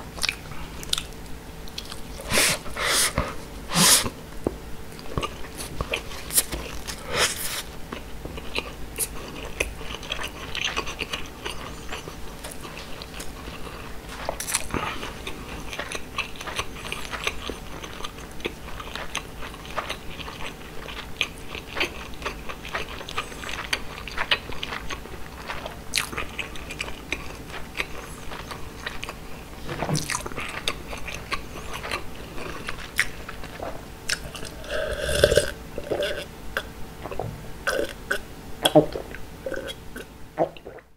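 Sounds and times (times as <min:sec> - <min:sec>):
person chewing with mouth closed: 0:00.1 - 0:04.2, 0:04.9 - 0:40.9.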